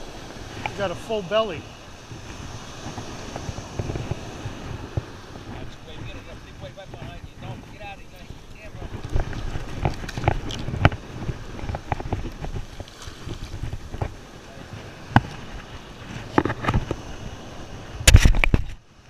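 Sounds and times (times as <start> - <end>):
surf washing over sand: 0.0 - 19.0
wind rumbling on microphone: 0.0 - 19.0.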